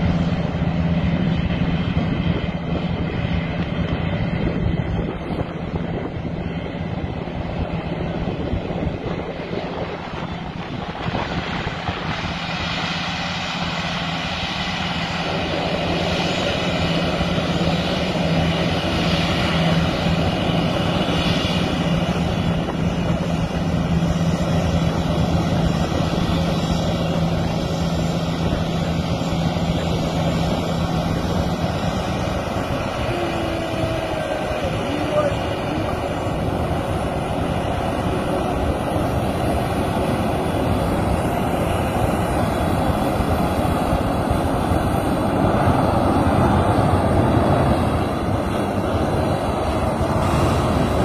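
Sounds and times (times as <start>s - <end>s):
jet engines running: 0.0s - 51.0s
steady low hum: 0.0s - 51.0s.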